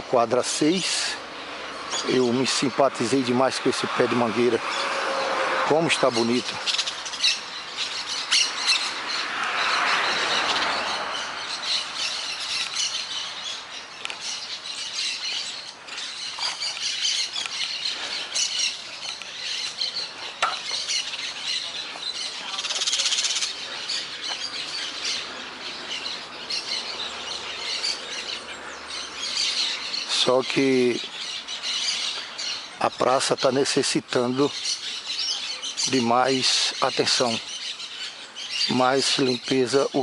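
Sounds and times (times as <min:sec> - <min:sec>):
broad rush of noise: 0:00.0 - 0:34.4
birds chirping and squawking: 0:00.0 - 0:40.0.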